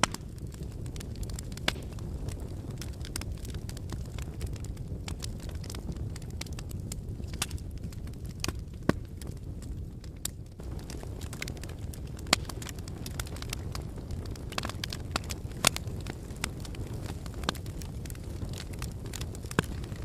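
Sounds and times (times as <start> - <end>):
fire crackling and popping: 0.0 - 20.0
low rumble of fire: 0.0 - 20.0.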